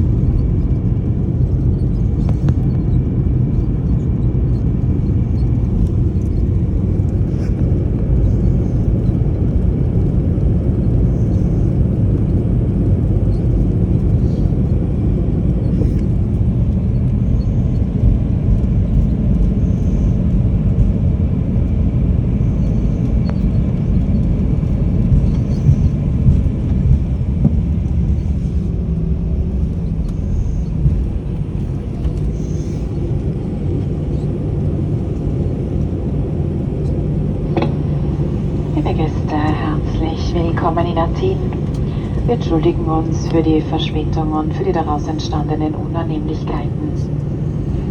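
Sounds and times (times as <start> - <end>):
airplane cabin rumble while taxiing: 0.0 - 47.9.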